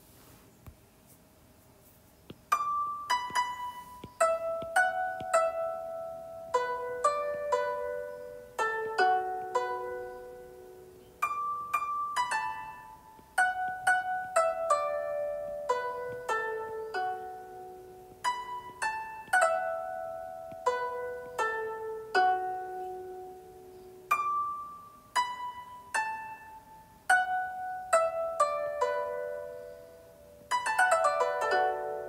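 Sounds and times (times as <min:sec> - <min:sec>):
harp-like plucked string music: 0:02.5 - 0:32.0.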